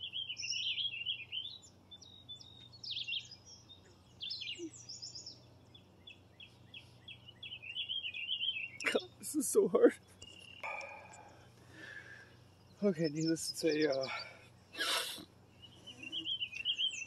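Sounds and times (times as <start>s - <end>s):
faint low hum: 0.0s - 17.0s
songbirds singing: 0.0s - 17.0s.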